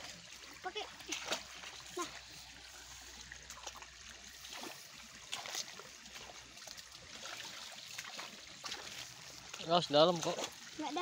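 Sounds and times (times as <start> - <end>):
faint water trickling: 0.0 - 11.0
small water splashes: 0.0 - 11.0.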